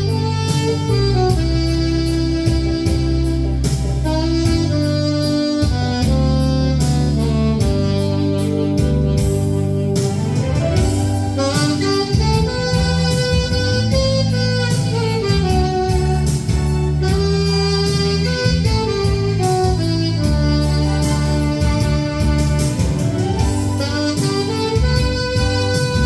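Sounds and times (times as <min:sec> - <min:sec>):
bass and drums backing track: 0:00.0 - 0:26.0
saxophone melody: 0:00.0 - 0:26.0.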